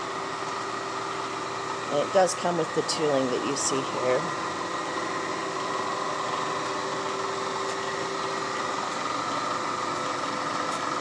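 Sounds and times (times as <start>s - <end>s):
shop machinery humming: 0.0s - 11.0s.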